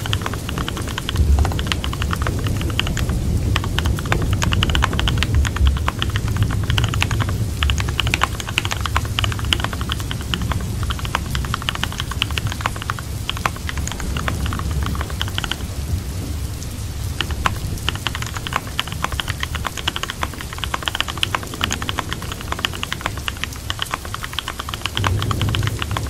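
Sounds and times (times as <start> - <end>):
computer keyboard typing: 0.0 - 15.8, 17.1 - 26.0
steady rain: 0.0 - 26.0.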